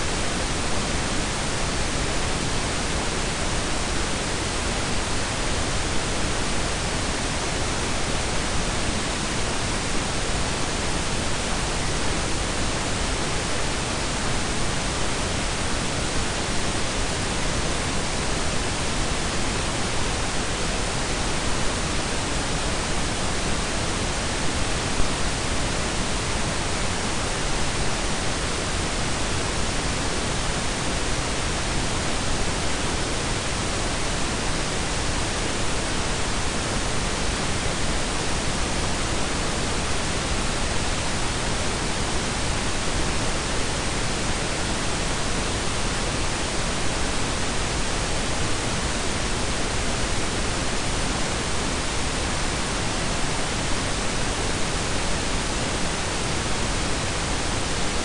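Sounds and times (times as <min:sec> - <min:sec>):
synthetic noise hiss and rumble: 0:00.0 - 0:58.0.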